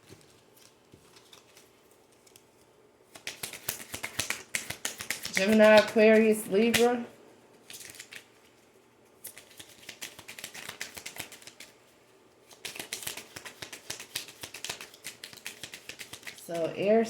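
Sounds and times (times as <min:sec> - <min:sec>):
cards being shuffled: 0:00.0 - 0:02.5, 0:03.1 - 0:07.0, 0:07.6 - 0:08.6, 0:09.2 - 0:11.8, 0:12.5 - 0:16.8.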